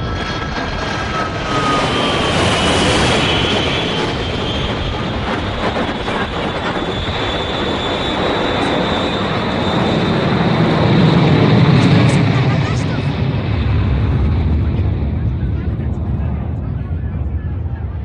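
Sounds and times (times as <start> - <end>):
jet airliner flying overhead: 0.0 - 18.0.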